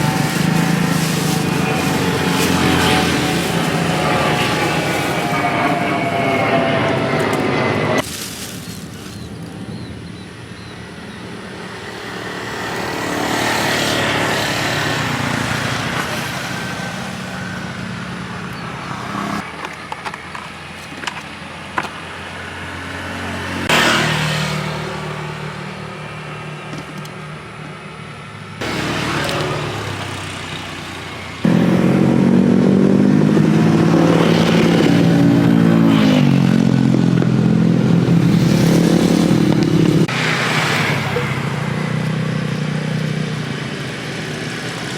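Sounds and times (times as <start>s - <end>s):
cars passing: 0.0s - 44.9s
motorcycles passing: 0.0s - 44.9s.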